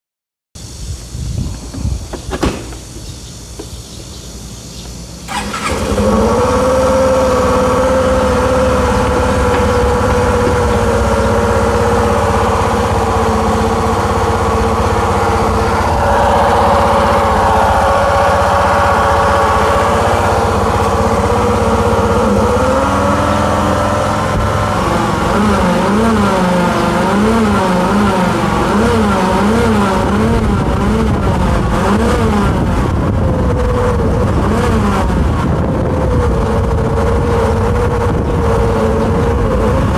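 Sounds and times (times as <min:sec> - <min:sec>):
scooter engine running: 0:05.2 - 0:39.9.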